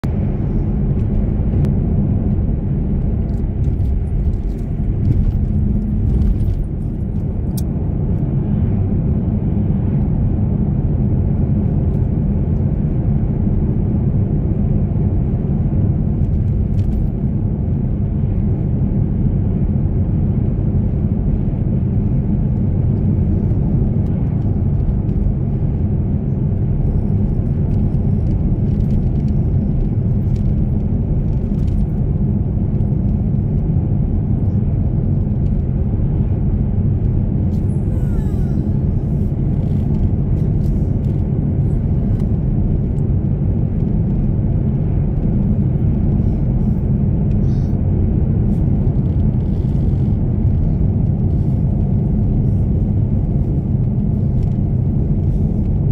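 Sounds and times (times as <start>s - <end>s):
car driving at highway speed: 0.0s - 55.9s.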